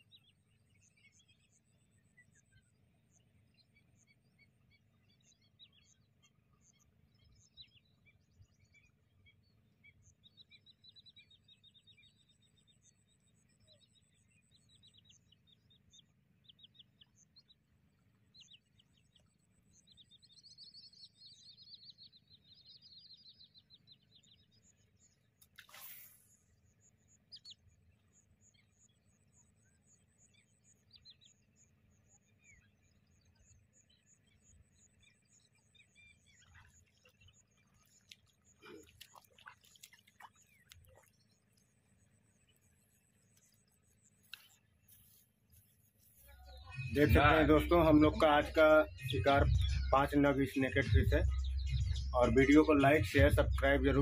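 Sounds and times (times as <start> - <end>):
small birds chirping and trilling: 0.0 - 54.0.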